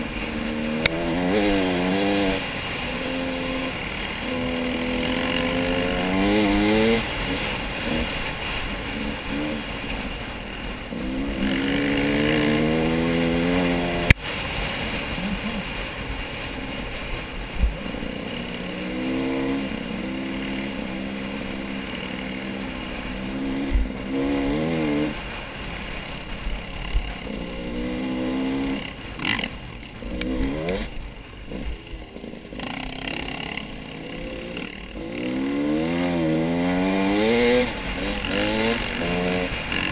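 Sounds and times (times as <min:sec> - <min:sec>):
engine revving: 0:00.0 - 0:09.8, 0:10.9 - 0:14.2, 0:17.9 - 0:39.9.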